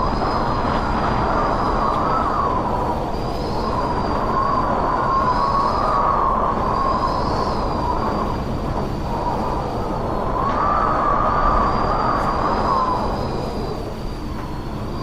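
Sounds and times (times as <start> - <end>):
wind howling and whistling: 0.0 - 15.0.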